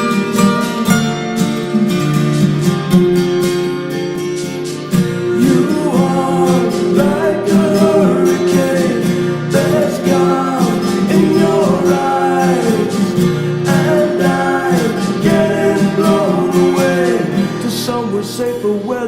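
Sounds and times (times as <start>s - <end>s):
acoustic guitars strumming chords: 0.0s - 19.0s
sliding guitar melody: 0.0s - 19.0s.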